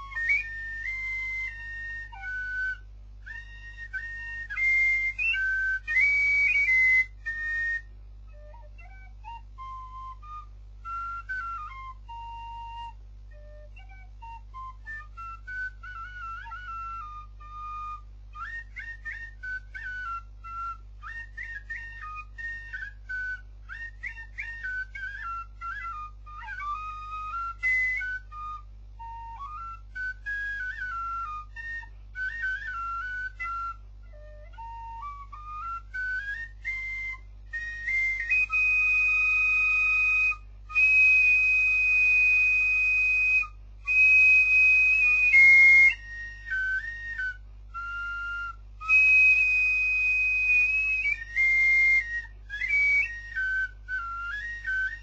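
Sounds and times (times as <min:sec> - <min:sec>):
wooden flute march tune: 0:00.0 - 0:55.0.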